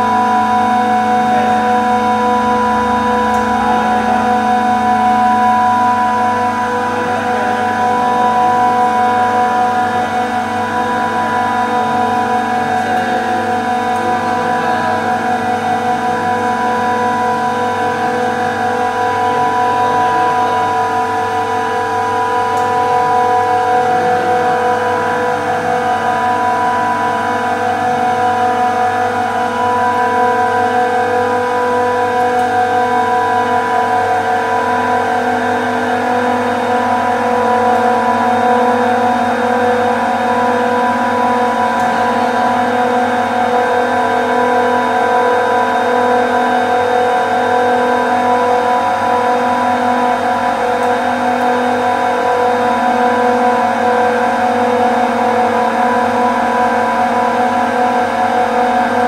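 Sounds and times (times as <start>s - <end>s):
compressors droning: 0.0s - 59.0s.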